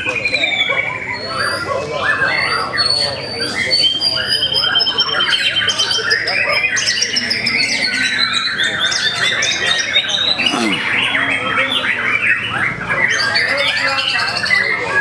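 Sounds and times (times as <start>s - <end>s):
songbirds whistling and trilling: 0.0s - 15.0s.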